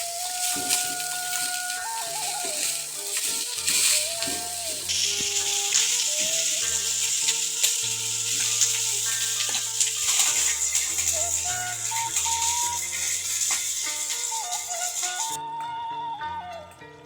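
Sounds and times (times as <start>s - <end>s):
food sizzling in a pan: 0.0s - 15.4s
gentle background music: 0.0s - 17.0s.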